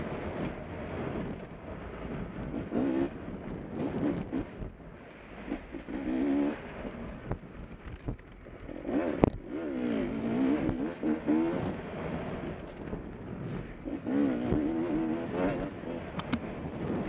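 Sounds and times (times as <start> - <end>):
motorcycle engine revving: 2.4 - 4.8, 5.4 - 17.0.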